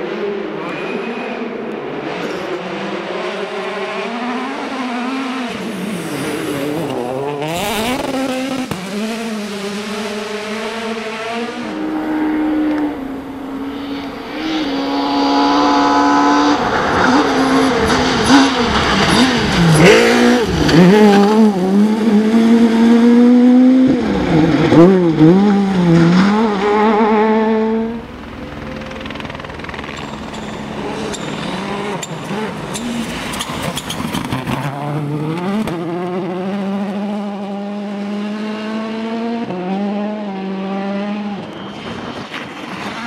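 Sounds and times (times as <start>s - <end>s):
rally car engine revving: 0.0s - 43.0s.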